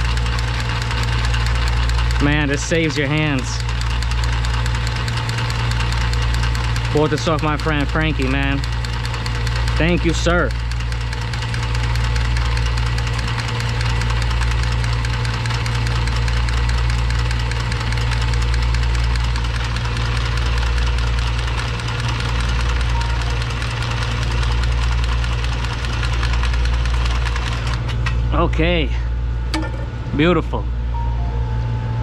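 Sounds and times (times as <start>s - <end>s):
tubing cutter cutting pipe: 0.0s - 28.2s
steady low hum: 0.0s - 32.0s.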